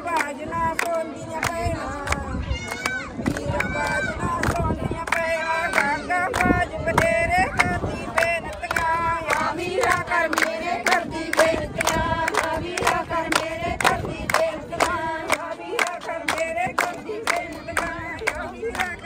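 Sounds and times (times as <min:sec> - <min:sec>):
hand-clapping beat: 0:00.0 - 0:19.0
women singing together: 0:00.0 - 0:19.0.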